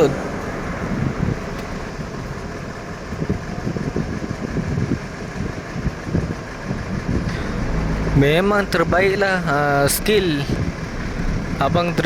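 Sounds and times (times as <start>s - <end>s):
outdoor road noise: 0.0s - 12.0s
truck diesel engine running: 0.0s - 12.0s.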